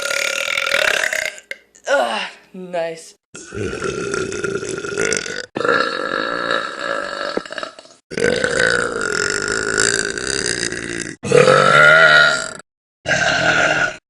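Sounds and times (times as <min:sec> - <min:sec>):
women belching: 0:00.0 - 0:02.3, 0:03.4 - 0:14.0.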